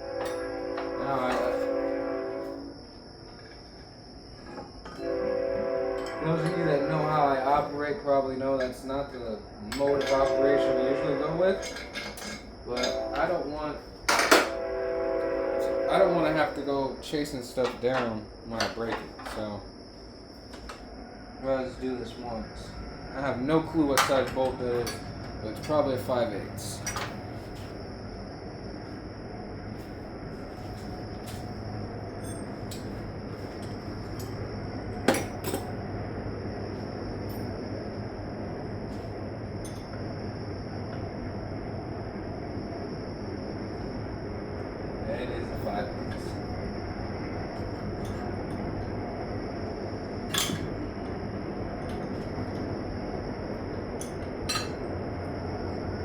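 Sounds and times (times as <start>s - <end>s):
train rumbling past: 0.0s - 3.2s, 4.1s - 18.6s, 20.8s - 56.0s.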